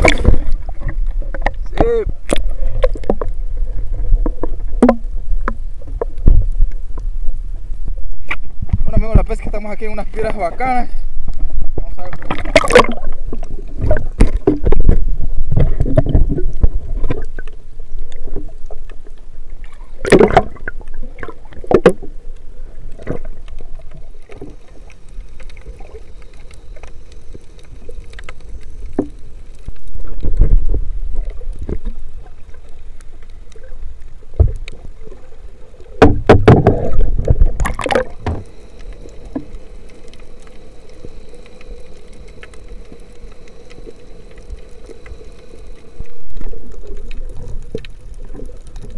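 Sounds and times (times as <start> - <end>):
faint steady hum: 0.0 - 48.9
underwater rush of water: 0.0 - 48.9.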